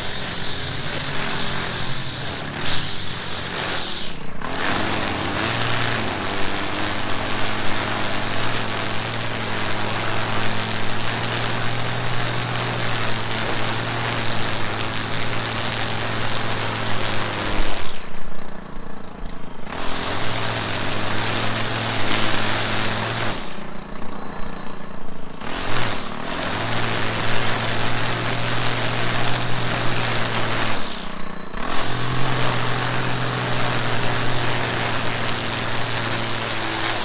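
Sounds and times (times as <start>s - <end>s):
string trimmer engine buzzing: 0.0s - 24.4s, 25.2s - 37.0s.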